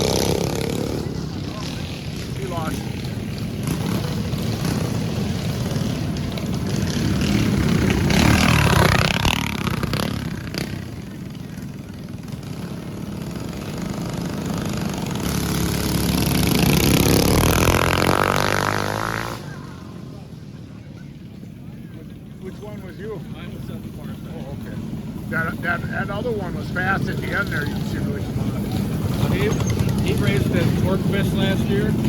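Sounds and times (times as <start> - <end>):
mini bike engines racing: 0.0 - 32.0.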